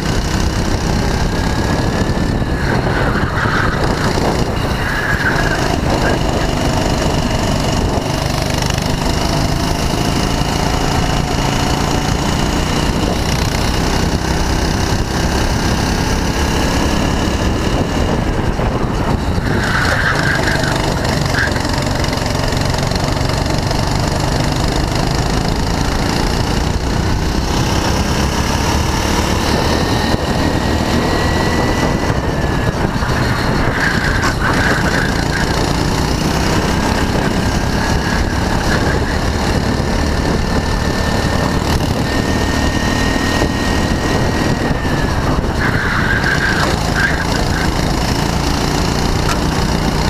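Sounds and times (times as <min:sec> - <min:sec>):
go-kart engine running hard: 0:00.0 - 0:50.0.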